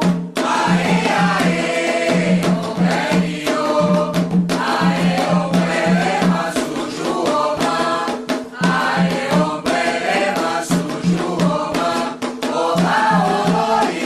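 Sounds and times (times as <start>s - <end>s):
group of voices chanting: 0.0s - 14.0s
hand drums beating: 0.0s - 14.0s.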